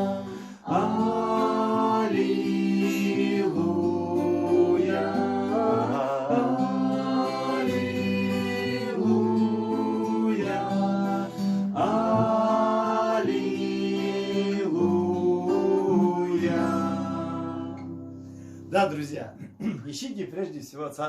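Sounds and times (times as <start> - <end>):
voices singing a hymn: 0.0 - 18.2
guitar accompaniment: 0.0 - 19.8.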